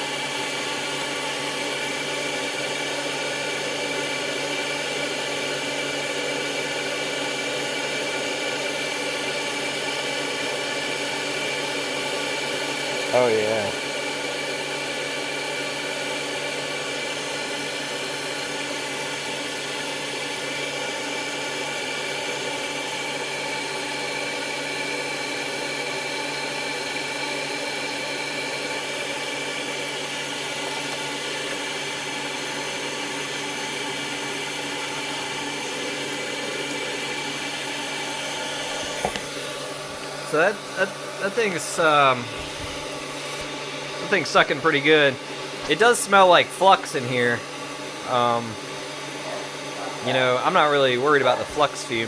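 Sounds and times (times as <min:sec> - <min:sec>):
fume extractor fan whining: 0:00.0 - 0:52.0.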